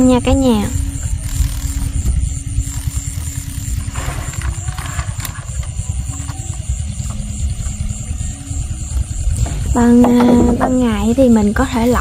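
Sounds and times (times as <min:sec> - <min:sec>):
night insects chirping: 0:00.0 - 0:12.0
steady low rumble: 0:00.0 - 0:12.0.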